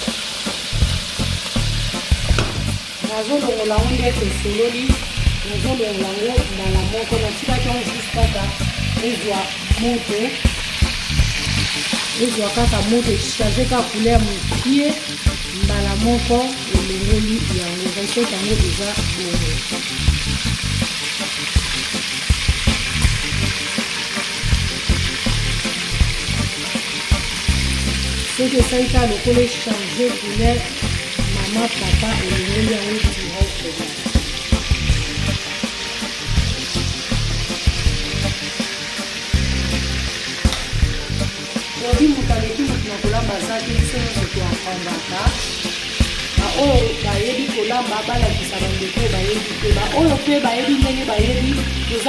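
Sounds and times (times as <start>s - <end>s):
fish sizzling in oil: 0.0s - 52.0s.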